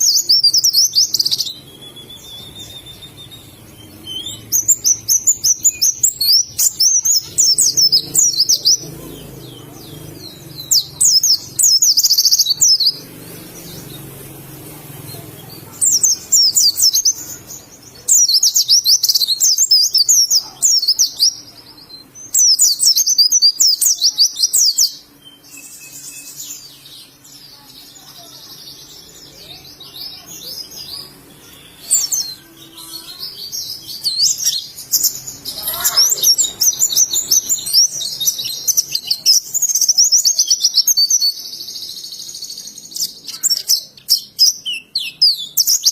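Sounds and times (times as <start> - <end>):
bird chirping trills: 0.0 - 45.9.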